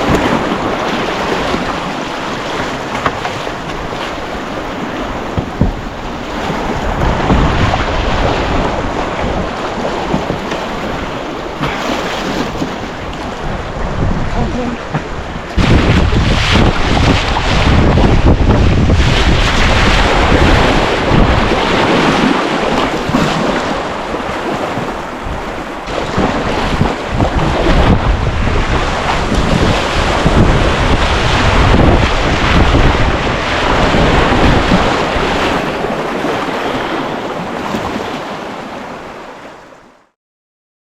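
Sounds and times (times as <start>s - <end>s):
wind buffeting microphone: 0.0s - 39.2s
rushing water: 0.0s - 40.2s.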